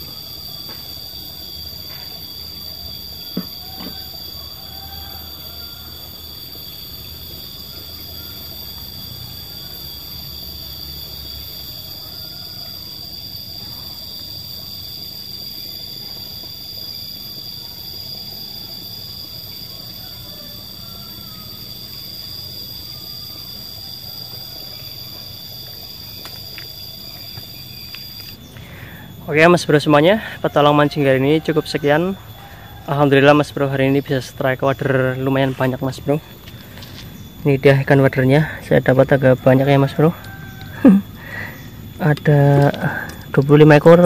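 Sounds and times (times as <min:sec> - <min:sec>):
high-pitched whining tones: 0:00.0 - 0:44.0.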